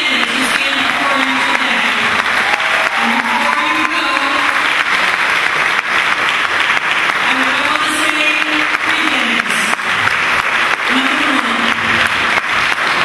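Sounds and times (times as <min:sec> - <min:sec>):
audience clapping: 0:00.0 - 0:13.0.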